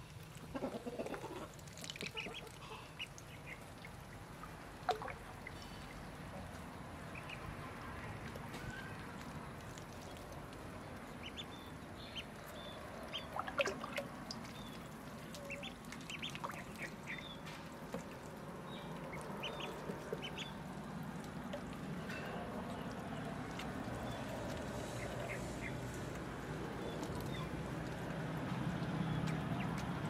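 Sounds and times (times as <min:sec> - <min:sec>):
ducklings peeping: 0:00.4 - 0:04.2, 0:04.9 - 0:10.3, 0:11.0 - 0:17.5, 0:18.6 - 0:30.0
low background wash: 0:01.6 - 0:30.0.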